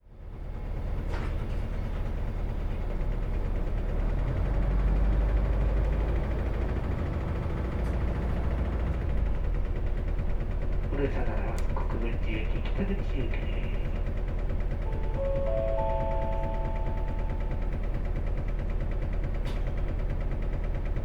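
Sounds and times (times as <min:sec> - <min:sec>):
bus diesel engine idling: 0:00.0 - 0:21.0.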